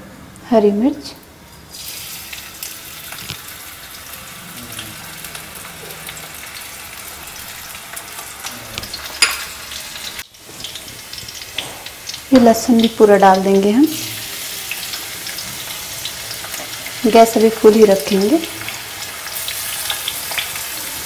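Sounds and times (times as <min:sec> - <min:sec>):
chillies sizzling in hot oil: 0:00.3 - 0:21.0.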